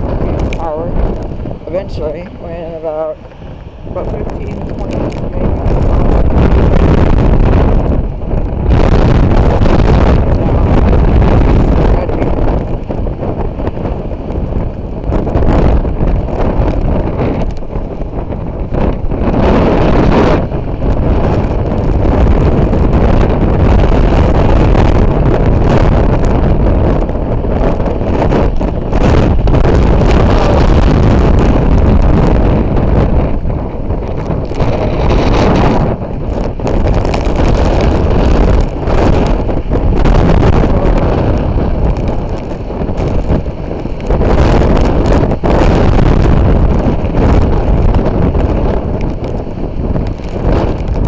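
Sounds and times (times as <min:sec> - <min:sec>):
strong wind over microphone: 0:00.0 - 0:51.0.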